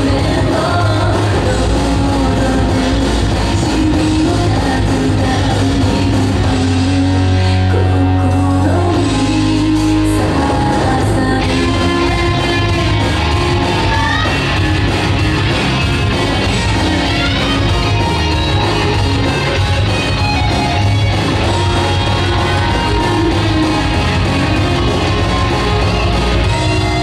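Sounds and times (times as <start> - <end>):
rock song with singing and guitar: 0.0 - 27.0.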